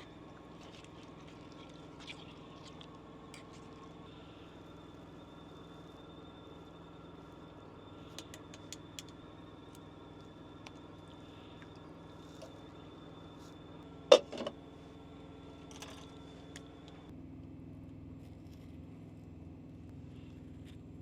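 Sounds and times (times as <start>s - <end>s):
high whine: 0.0s - 17.1s.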